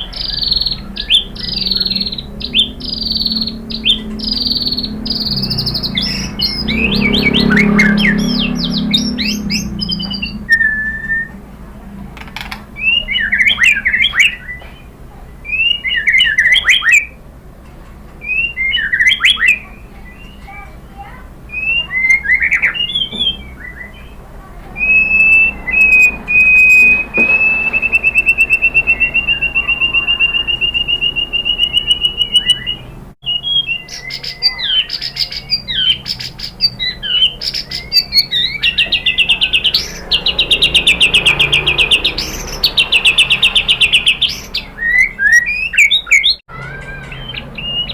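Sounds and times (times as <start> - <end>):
bird singing whistled phrases: 0.0 - 11.4, 12.8 - 17.2, 18.2 - 46.4, 47.1 - 47.9.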